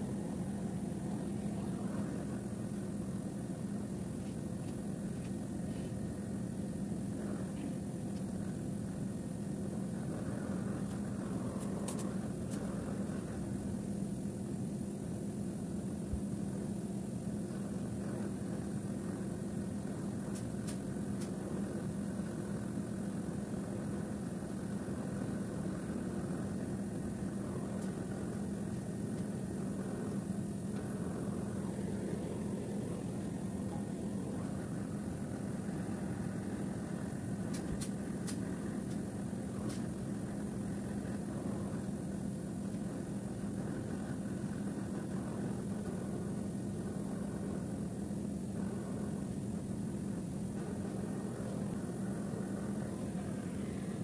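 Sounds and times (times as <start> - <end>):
air conditioning units humming: 0.0 - 54.0.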